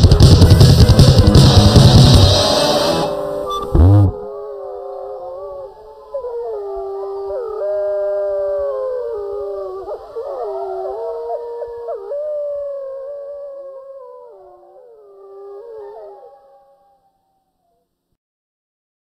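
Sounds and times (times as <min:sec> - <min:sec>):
wolves howling in chorus: 0:00.9 - 0:17.6.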